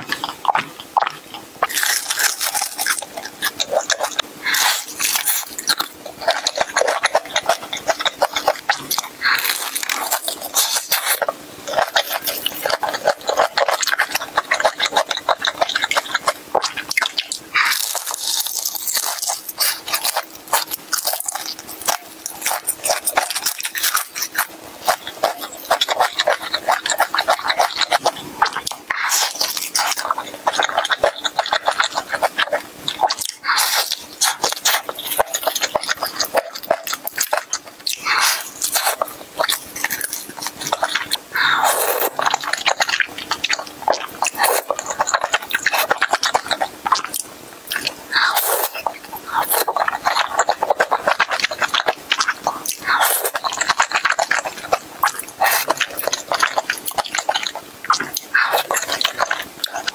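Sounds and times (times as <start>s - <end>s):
crunching fried chicken: 0.0s - 59.9s
slurping noodles: 0.0s - 59.9s.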